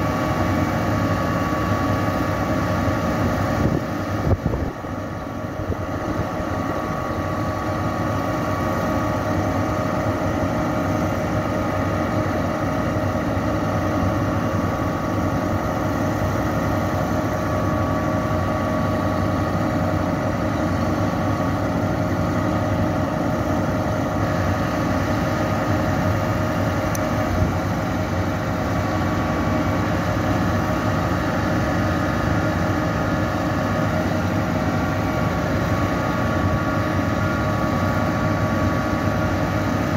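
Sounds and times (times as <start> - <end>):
diesel engine running: 0.0 - 39.9
hydraulic pump whine: 0.0 - 39.9.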